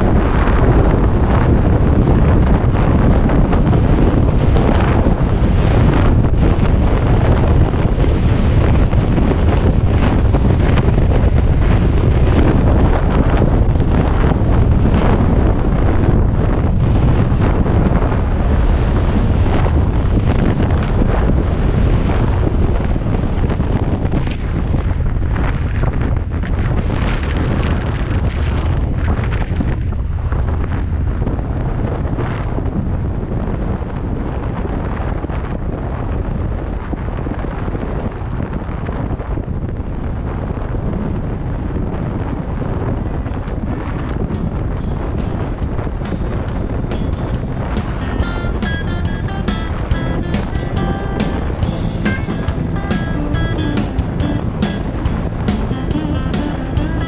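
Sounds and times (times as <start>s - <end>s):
motorcycle rumble: 0.0s - 37.6s, 38.2s - 57.0s
wind buffeting microphone: 0.0s - 57.0s.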